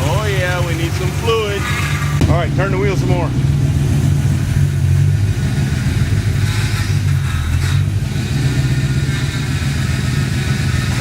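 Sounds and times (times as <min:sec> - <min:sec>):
engine idling: 0:00.0 - 0:11.0
power steering hissing: 0:01.6 - 0:10.9.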